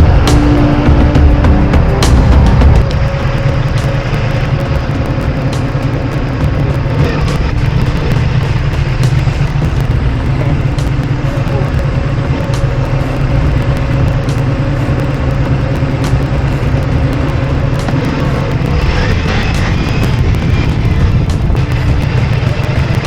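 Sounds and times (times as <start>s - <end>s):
motorcycle engine running: 0.0s - 23.0s
road noise: 0.0s - 23.0s
wind noise: 0.0s - 23.0s.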